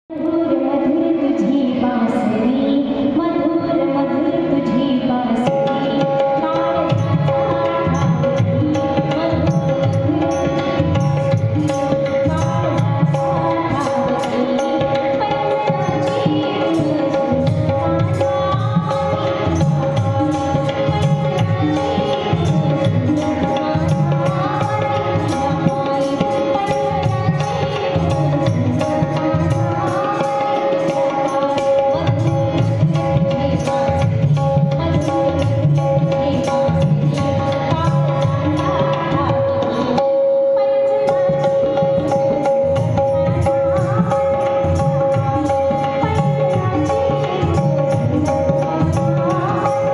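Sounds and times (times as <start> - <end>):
tabla playing a rhythm: 0.1 - 49.9.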